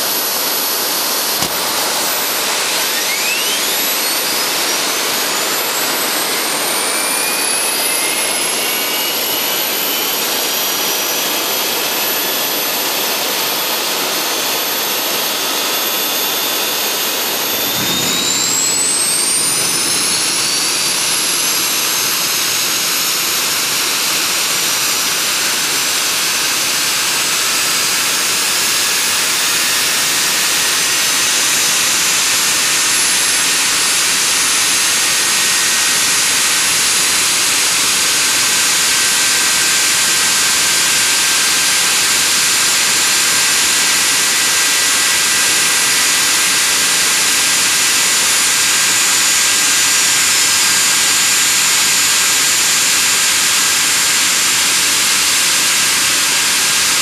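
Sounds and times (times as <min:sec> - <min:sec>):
high turbine whine: 0:00.0 - 0:57.0
jet engine roar: 0:00.0 - 0:57.0.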